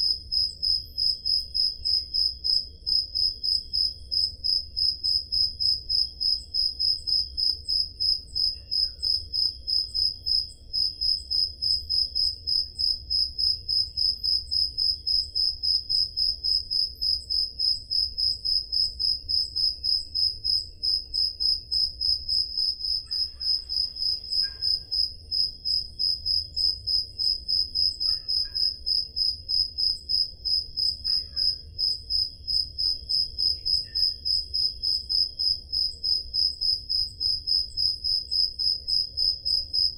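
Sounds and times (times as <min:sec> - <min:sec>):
cricket chirping: 0:00.0 - 0:39.9
faint insect trill: 0:00.0 - 0:39.9.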